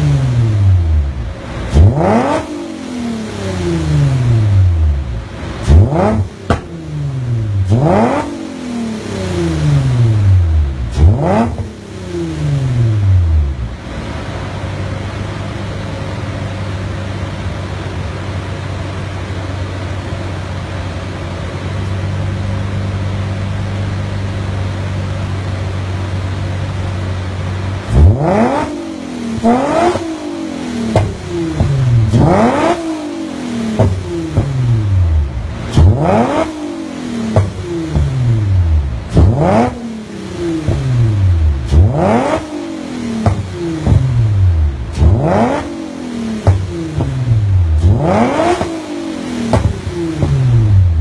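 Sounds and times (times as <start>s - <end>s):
car engine idling: 0.0s - 51.0s
car engine revving: 0.0s - 51.0s.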